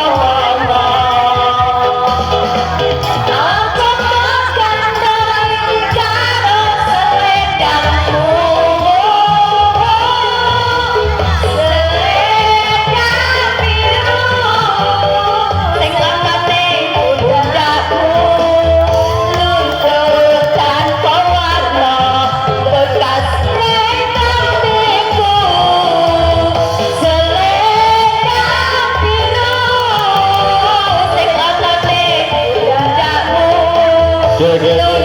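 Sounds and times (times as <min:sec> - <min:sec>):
bass line: 0:00.0 - 0:35.0
loud amplified music: 0:00.0 - 0:35.0
person singing: 0:00.0 - 0:35.0.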